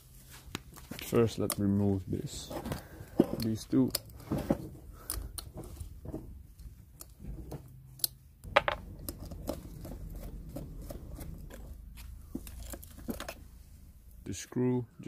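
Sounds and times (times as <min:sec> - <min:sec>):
low background rumble: 0:02.2 - 0:15.0.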